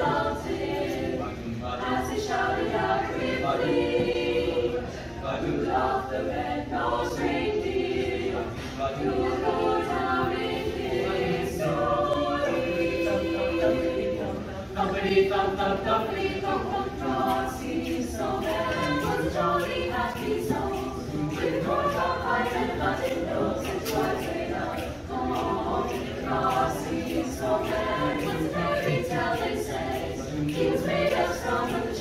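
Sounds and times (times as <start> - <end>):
choir singing in harmony: 0.0 - 32.0.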